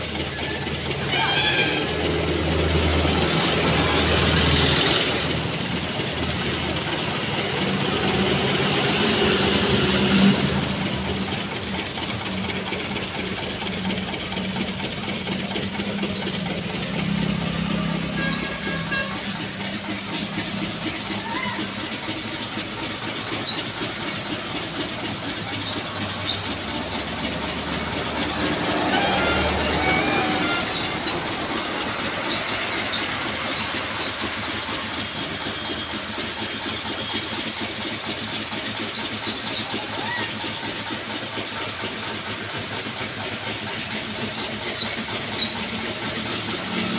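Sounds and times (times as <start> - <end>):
loud rumbling and clattering: 0.0 - 46.9.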